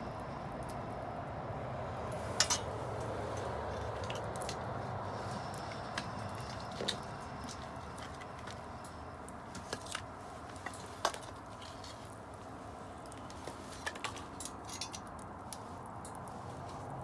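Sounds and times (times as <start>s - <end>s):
wood bonfire crackling: 0.0s - 17.0s.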